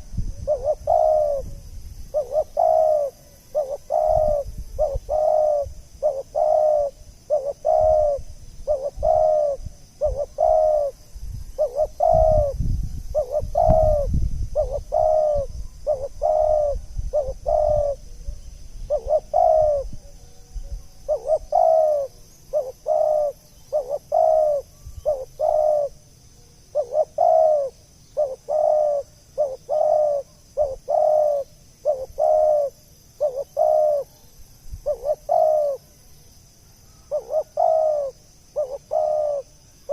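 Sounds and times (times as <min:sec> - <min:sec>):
dove cooing: 0:00.0 - 0:26.1, 0:26.7 - 0:36.0, 0:36.9 - 0:39.9.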